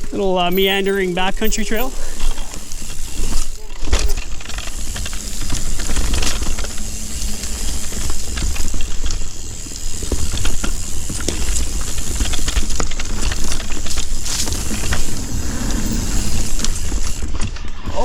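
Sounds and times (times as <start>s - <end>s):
bike rattling: 0.0s - 18.0s
bike tyre noise on dirt: 0.0s - 18.0s.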